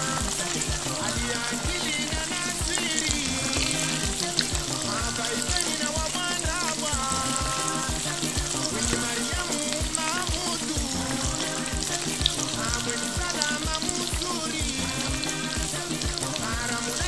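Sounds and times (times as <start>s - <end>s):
background music with beat: 0.0s - 17.0s
oil sizzling: 0.0s - 17.0s.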